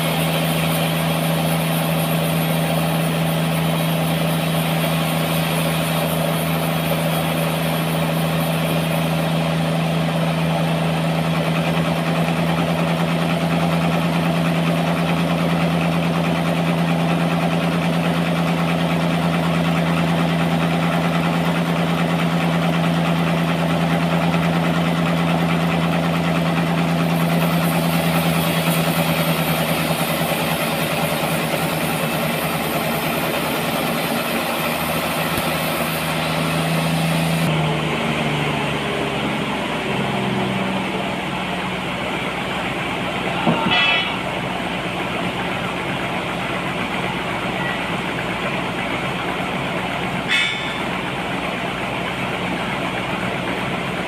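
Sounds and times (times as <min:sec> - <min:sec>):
sawmill machinery hum and hiss: 0:00.0 - 0:54.0.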